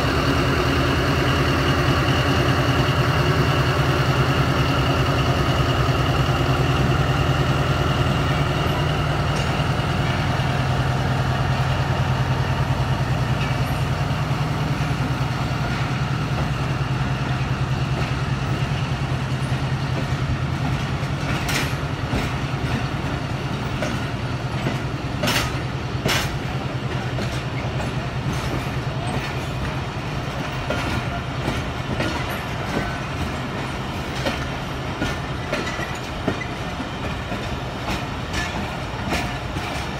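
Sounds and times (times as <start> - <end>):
diesel locomotive engine drone: 0.0 - 39.9
train wheels clicking on rail joints: 0.0 - 39.9.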